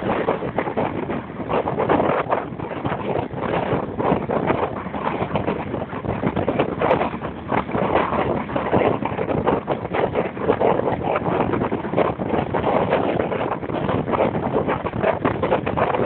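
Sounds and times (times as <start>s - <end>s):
vehicle and road noise: 0.0s - 16.0s
wind buffeting microphone: 0.0s - 16.0s.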